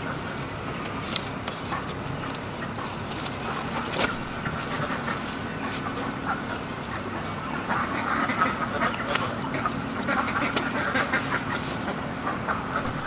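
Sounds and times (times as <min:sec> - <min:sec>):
ducks quacking: 0:00.8 - 0:13.0.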